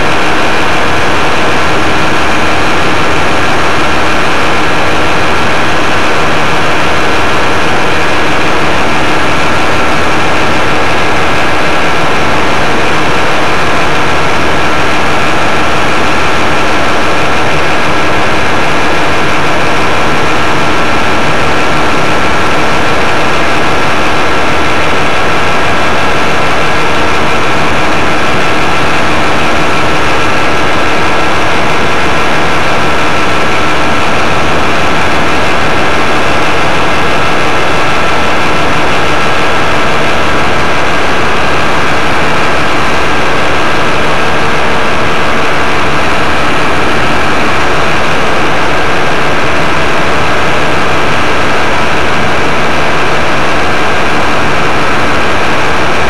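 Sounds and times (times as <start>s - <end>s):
paramotor engine droning: 0.0s - 56.0s
steady high tone: 0.0s - 56.0s.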